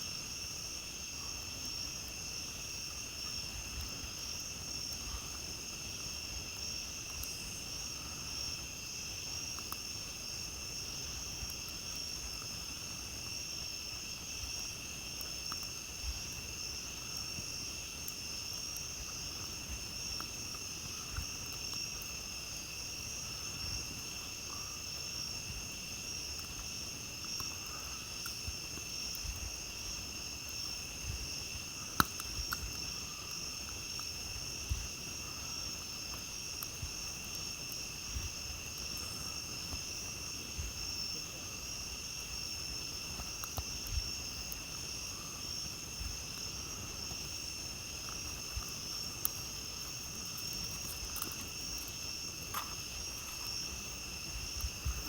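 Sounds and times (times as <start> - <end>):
campfire crackling: 0.0 - 55.0
insects singing at night: 0.0 - 55.0.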